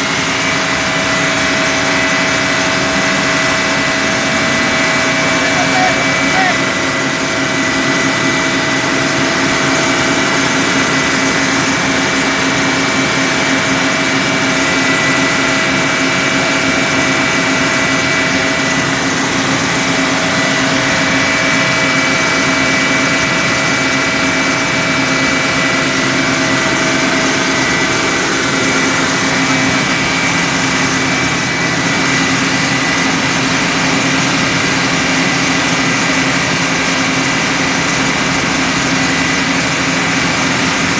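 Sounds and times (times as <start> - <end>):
engine running with high whine: 0.0 - 40.9.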